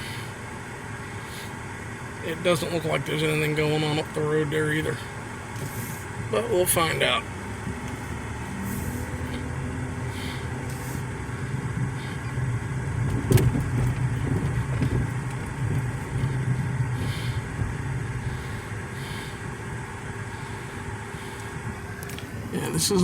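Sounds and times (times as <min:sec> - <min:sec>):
car engine and road hum: 0:00.0 - 0:23.0.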